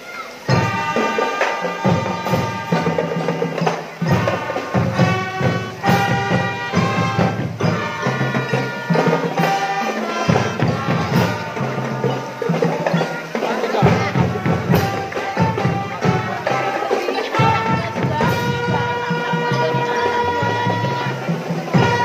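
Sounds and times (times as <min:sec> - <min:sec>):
marching drum band: 0:00.3 - 0:22.0.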